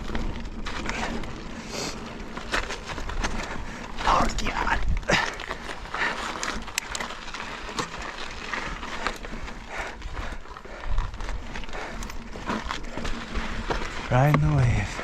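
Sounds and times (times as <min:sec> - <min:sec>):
mountain bike clattering over rock: 0:00.0 - 0:15.0.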